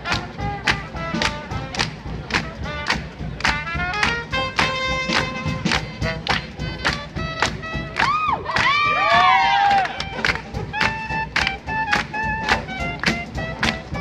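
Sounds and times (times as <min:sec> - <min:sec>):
sharp rhythmic strikes: 0:00.0 - 0:08.1, 0:10.0 - 0:14.0
swing jazz band playing: 0:00.0 - 0:14.0
upright bass: 0:00.0 - 0:14.0
wind instrument melody: 0:00.0 - 0:14.0.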